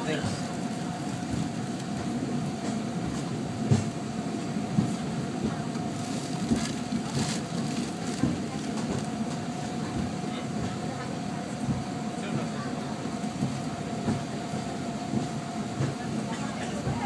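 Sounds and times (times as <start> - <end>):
tram wheels rumbling on track: 0.0 - 17.0.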